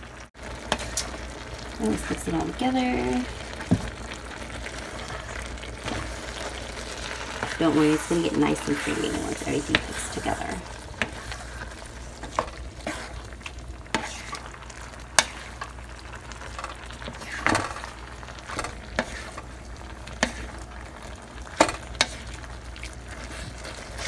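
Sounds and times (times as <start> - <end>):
low sizzle: 0.0 - 24.0
spoon stirring pasta in sauce: 4.7 - 24.0.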